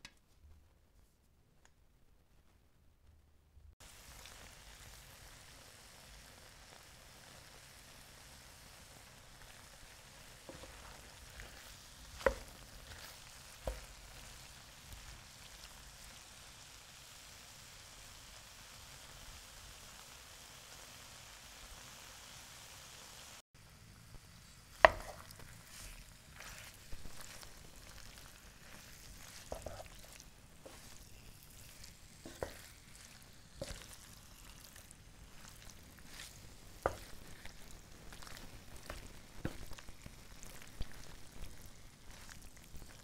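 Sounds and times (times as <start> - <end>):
food sizzling in a frying pan: 3.8 - 43.0.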